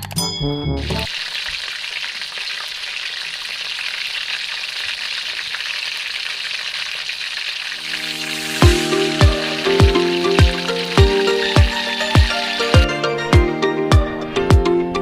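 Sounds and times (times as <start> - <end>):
chicken sizzling in hot oil: 0.8 - 13.0.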